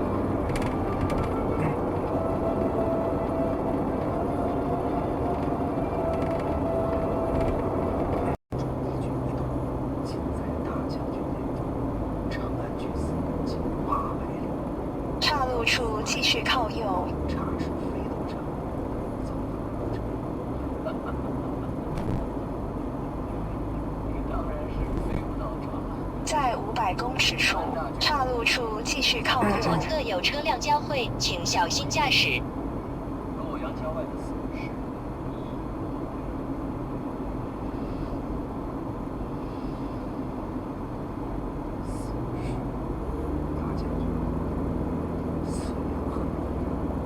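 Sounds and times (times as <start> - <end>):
car driving rumble: 0.0 - 47.0.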